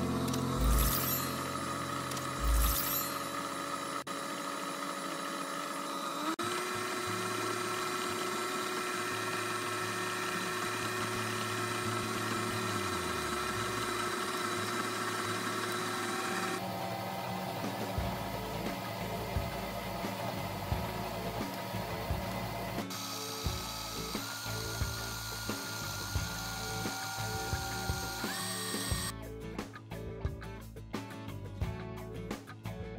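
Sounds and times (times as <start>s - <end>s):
stand mixer motor running: 0.0s - 29.1s.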